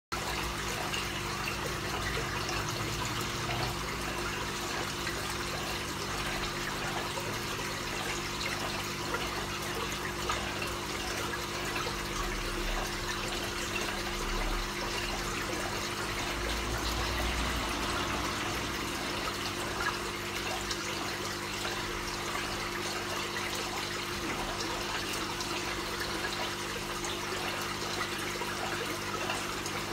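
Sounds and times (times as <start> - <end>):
water trickling and splashing: 0.1 - 29.9.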